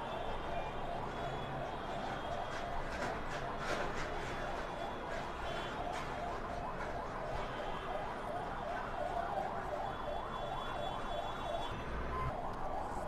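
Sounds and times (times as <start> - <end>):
faint siren wailing: 0.0 - 13.0.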